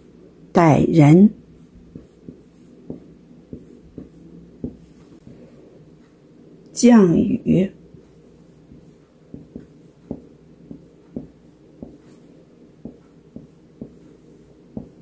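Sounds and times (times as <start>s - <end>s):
marker pen on whiteboard: 1.2s - 6.2s, 7.5s - 15.0s.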